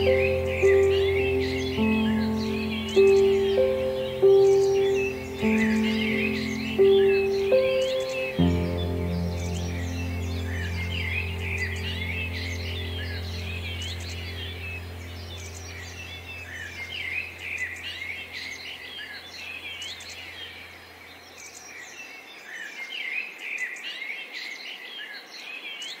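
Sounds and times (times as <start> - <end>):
low ambient music drone: 0.0 - 21.0
small birds chirping: 0.0 - 23.8.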